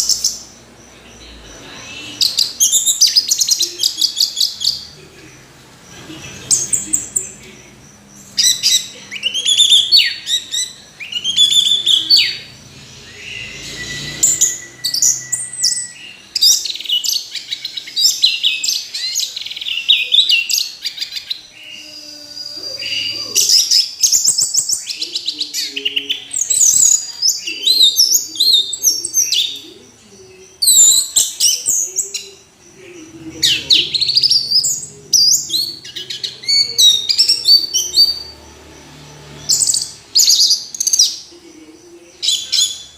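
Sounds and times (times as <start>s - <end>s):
thrush singing: 0.0s - 42.9s.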